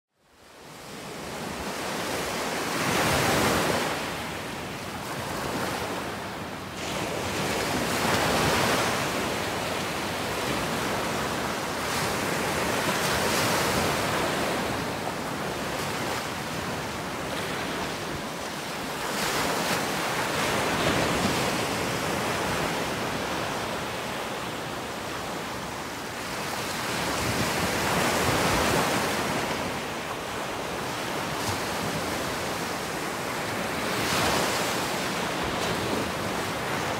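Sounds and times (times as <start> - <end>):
waves breaking on a beach: 0.2 - 36.9.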